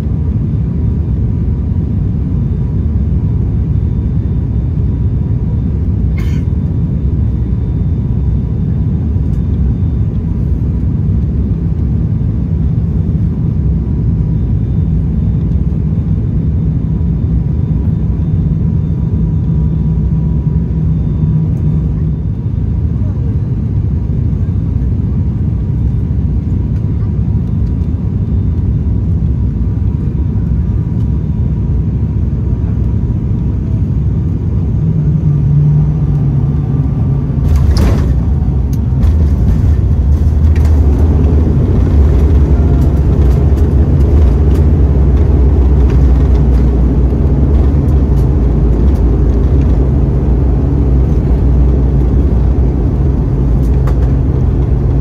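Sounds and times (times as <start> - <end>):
aircraft rolling on runway rumble: 0.0 - 55.0
propeller engine drone: 0.0 - 55.0.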